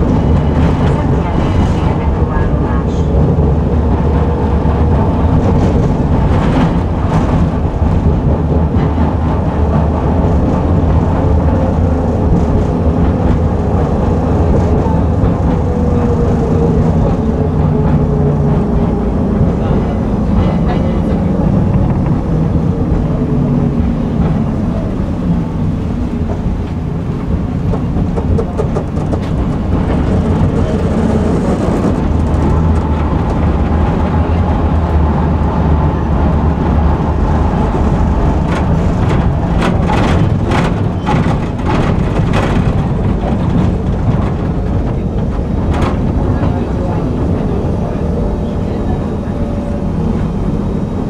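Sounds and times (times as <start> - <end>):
tram wheels and motor rumbling: 0.0 - 51.0
wheels clacking on rails: 0.0 - 51.0.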